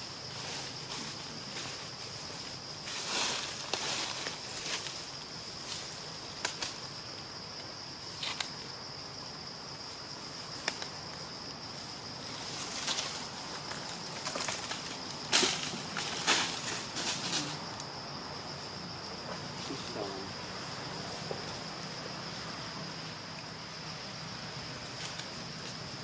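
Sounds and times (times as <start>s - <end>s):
high insect buzz: 0.0s - 26.0s
leaves and branches rustling: 0.0s - 26.0s.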